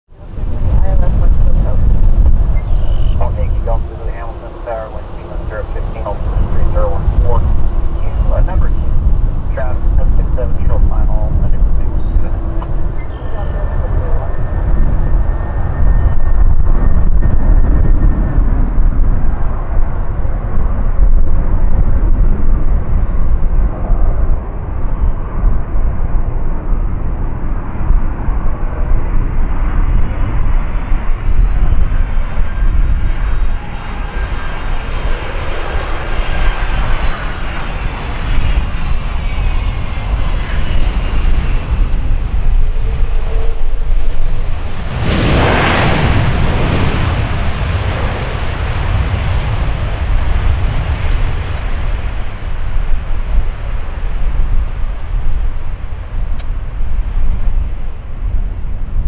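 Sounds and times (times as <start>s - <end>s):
jet engine rumble: 0.1s - 59.0s
jet engine whine: 0.1s - 59.0s.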